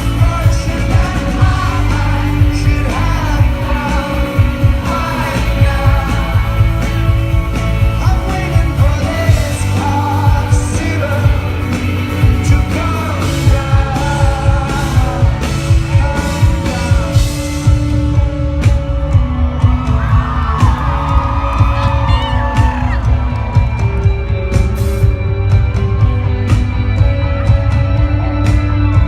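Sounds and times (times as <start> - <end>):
drum beat: 0.0 - 29.0
lead singer: 0.0 - 29.0
rock band playing live: 0.0 - 29.0.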